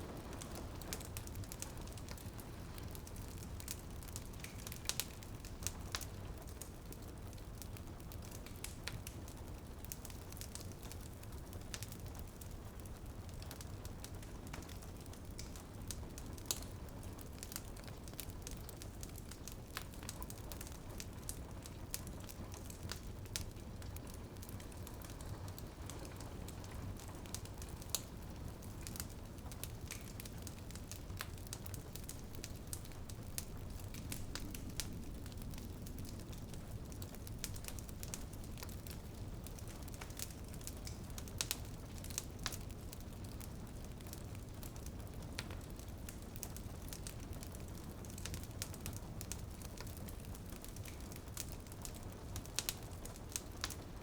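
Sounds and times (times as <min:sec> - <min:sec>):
rain pattering on window: 0:00.0 - 0:54.0
wood fire crackling and popping: 0:00.0 - 0:54.0.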